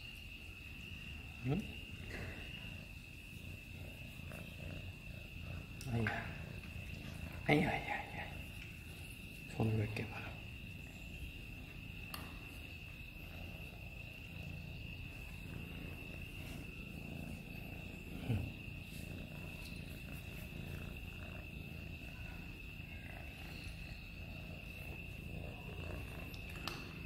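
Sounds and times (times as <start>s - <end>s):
cat purring loudly: 0.1s - 27.0s.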